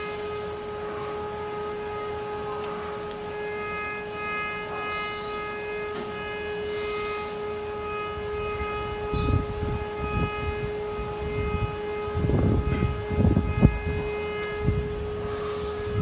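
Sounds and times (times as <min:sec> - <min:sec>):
engraving machine high whine: 0:00.0 - 0:16.0
low rumbling: 0:00.0 - 0:16.0.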